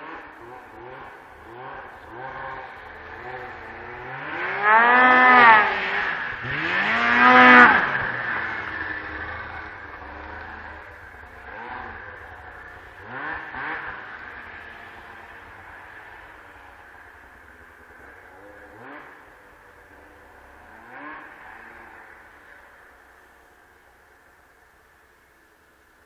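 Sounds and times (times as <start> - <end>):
snowmobile engine revving: 0.0 - 25.4.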